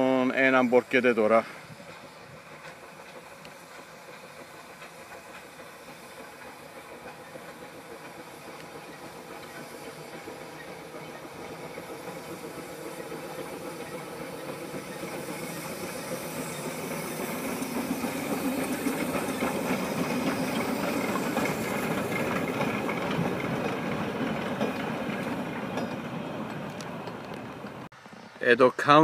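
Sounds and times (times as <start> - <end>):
steam hissing: 0.0 - 27.9
steam locomotive running: 0.0 - 29.0.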